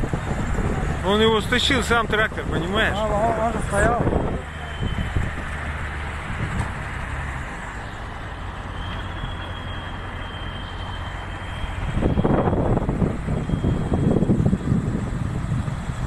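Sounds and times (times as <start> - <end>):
heavy vehicle engine rumbling: 0.0 - 16.0.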